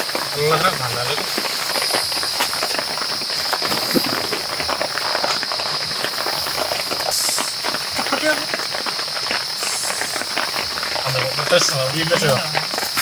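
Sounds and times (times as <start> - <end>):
constant high hiss: 0.0 - 13.0
rain pattering: 0.0 - 13.0.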